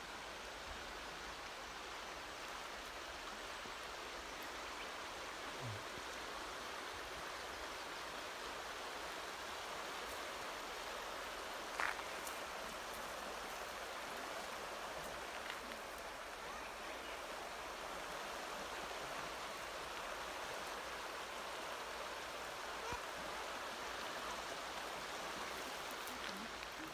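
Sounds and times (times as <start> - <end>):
river rushing over stones: 0.0 - 26.9.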